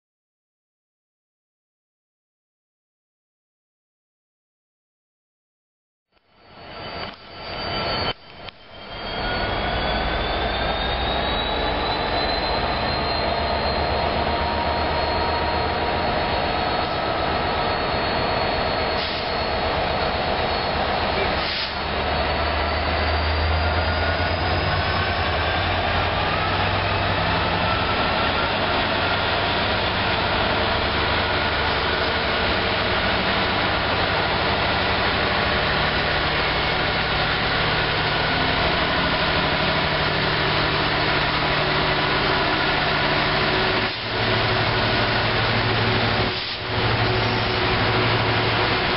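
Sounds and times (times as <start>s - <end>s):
diesel locomotive engine throbbing: 6.4s - 48.9s.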